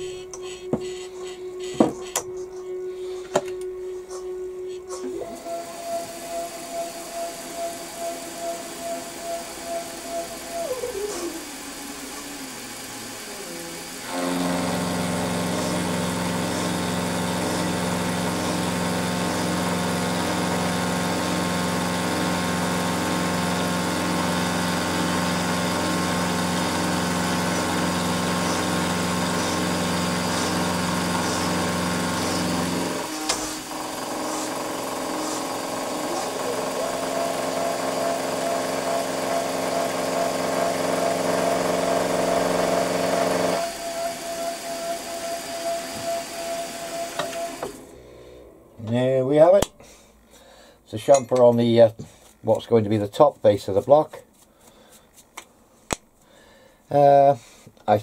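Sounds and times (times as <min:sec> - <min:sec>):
milling machine motor hum: 0:00.0 - 0:48.6.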